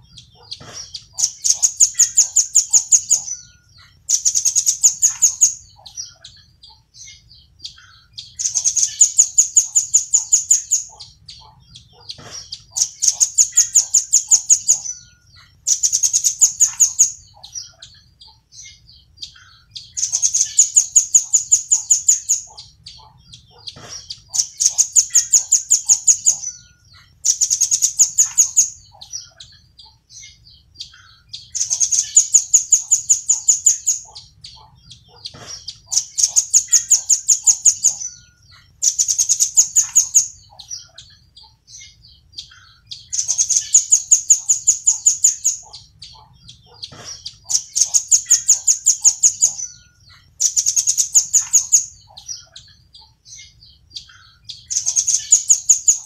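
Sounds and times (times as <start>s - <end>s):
faint soft bird chirps: 0.0s - 56.0s.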